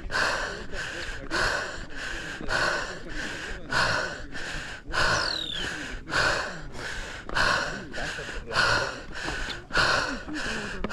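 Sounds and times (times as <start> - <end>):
hard rhythmic breathing: 0.0 - 10.9.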